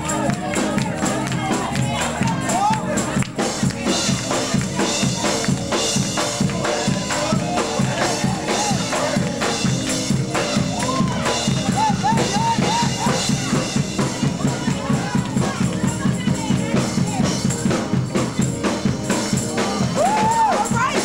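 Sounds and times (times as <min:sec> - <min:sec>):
upbeat gospel dance music: 0:00.0 - 0:21.0.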